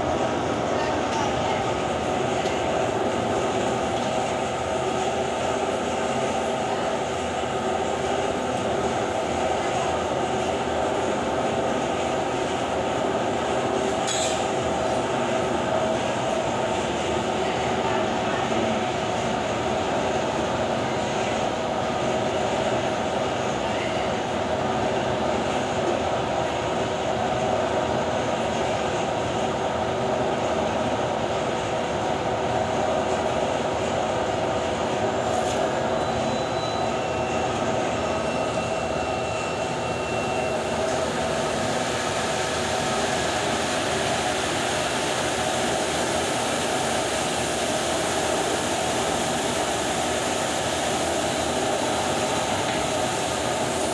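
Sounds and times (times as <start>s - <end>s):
laundry machinery running: 0.0s - 53.9s.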